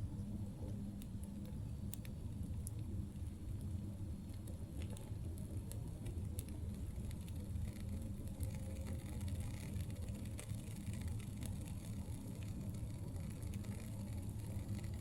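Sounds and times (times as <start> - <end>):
campfire crackling and popping: 1.0 - 15.0.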